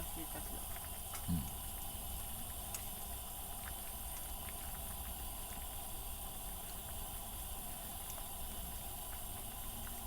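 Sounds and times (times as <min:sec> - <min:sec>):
broth simmering: 0:00.0 - 0:10.0.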